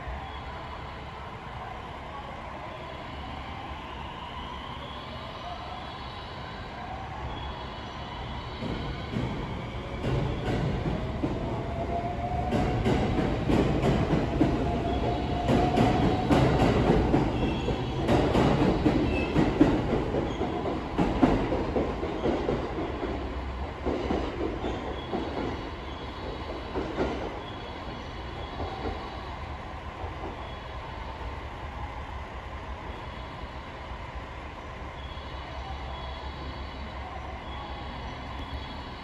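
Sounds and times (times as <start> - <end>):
low train rumble: 0.0 - 39.0
train wheel squeal: 2.2 - 32.1, 32.8 - 33.8, 34.8 - 39.0.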